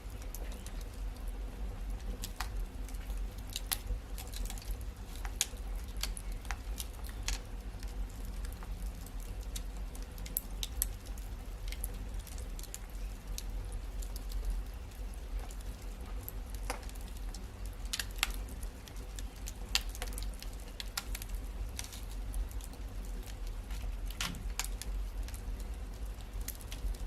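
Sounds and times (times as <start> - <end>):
fire crackling and popping: 0.0 - 27.0
low steady rumble: 0.0 - 27.0.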